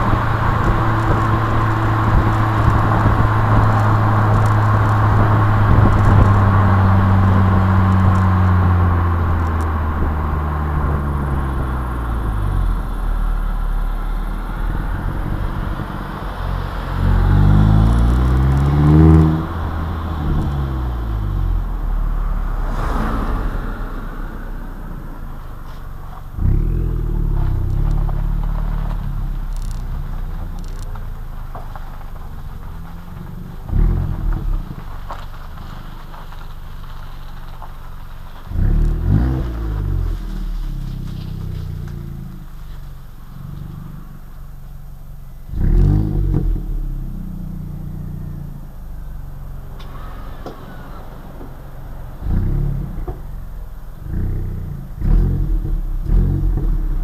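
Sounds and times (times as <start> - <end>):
car engine through exhaust: 0.0 - 57.0
road and wind noise: 0.0 - 57.0.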